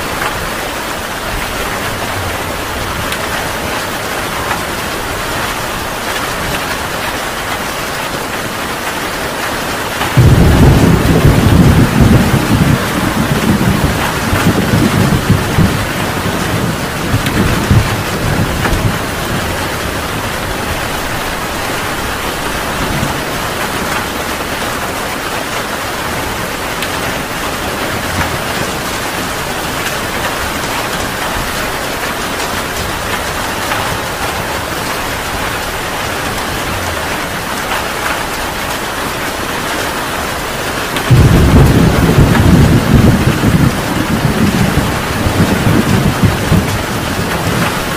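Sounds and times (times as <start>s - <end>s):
heavy rain falling: 0.0s - 47.9s
thunder rumbling: 8.5s - 47.9s.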